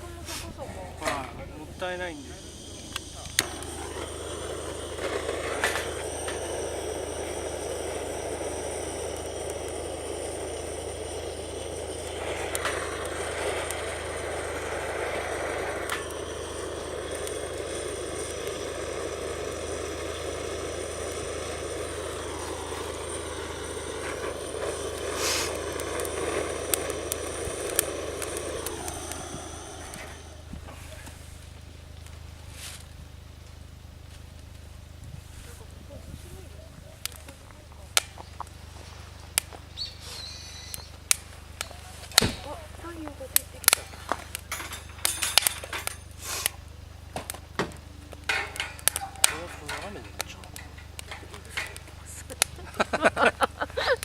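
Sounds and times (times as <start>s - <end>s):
charcoal fire rushing: 0.0s - 54.0s
fire crackles and snaps: 0.0s - 54.0s
low steady hum: 0.0s - 54.0s.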